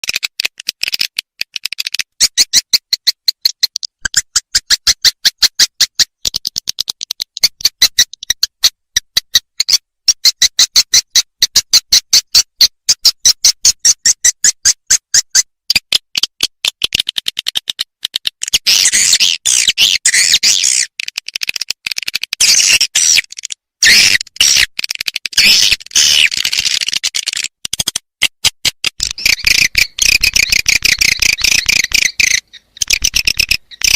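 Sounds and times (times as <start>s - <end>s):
recorded bird call chirps: 0.0s - 33.9s.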